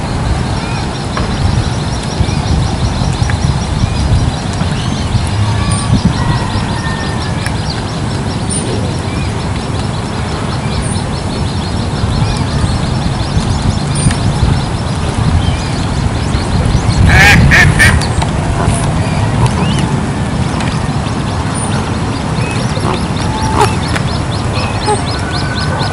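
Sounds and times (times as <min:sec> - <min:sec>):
chicks peeping and calling: 0:00.0 - 0:25.9
steady low rumble: 0:00.0 - 0:25.9.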